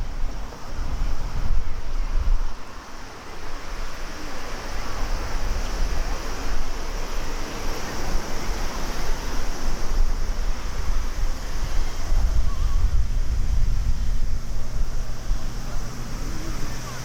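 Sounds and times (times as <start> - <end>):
jet engine hiss: 0.0 - 17.0
wind buffeting microphone: 0.0 - 17.0.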